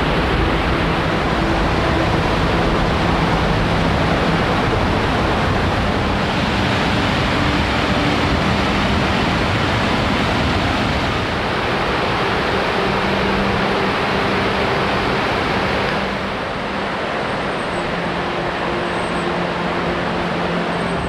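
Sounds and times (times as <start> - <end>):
creek rushing over rocks: 0.0 - 21.0.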